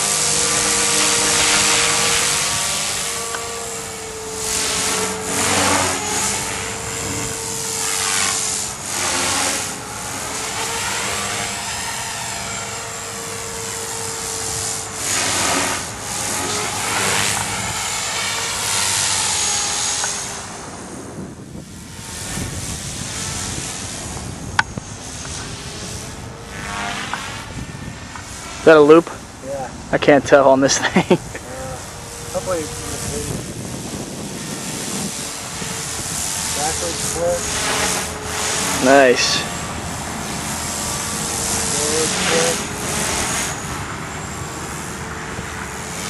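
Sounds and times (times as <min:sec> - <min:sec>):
rotor blade whooshes: 0:00.0 - 0:29.3, 0:31.7 - 0:46.0
rc helicopter engine and rotor: 0:00.0 - 0:46.0.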